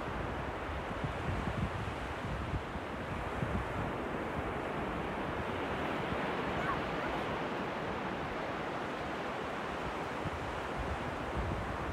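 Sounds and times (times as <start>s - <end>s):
wind buffeting microphone: 0.0s - 8.6s, 9.4s - 11.9s
surf breaking on shore: 0.0s - 11.9s.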